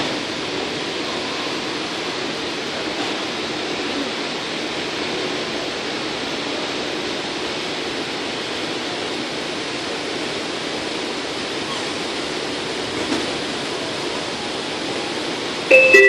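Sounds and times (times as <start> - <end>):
train car rushing along track: 0.0 - 16.0.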